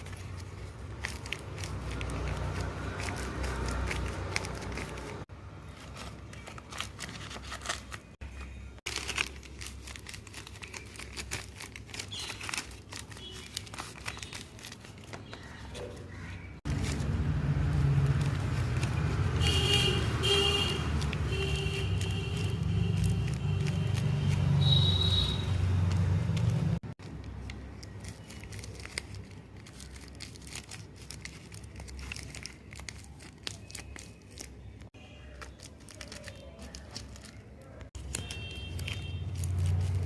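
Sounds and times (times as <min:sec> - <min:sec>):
paper crinkling and rustling: 0:00.0 - 0:40.0.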